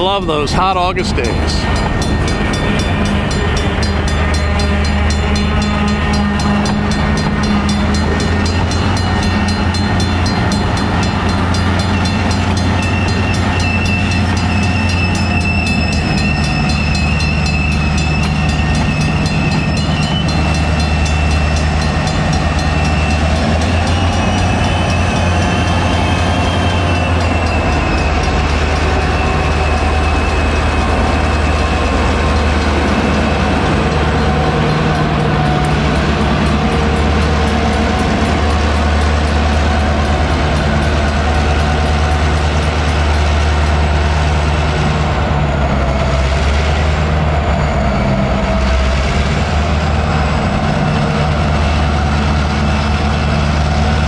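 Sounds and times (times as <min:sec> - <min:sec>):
crossing bell ringing: 0:00.0 - 0:45.1
diesel locomotive drone: 0:00.0 - 0:54.0
tank cars clanking over rails: 0:00.0 - 0:54.0.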